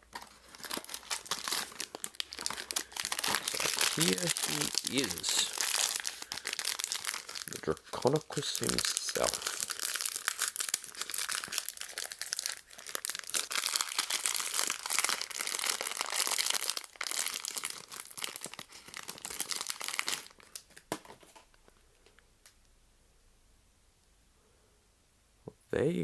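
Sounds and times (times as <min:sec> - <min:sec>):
wrapper crinkling and tearing: 0:00.0 - 0:22.2.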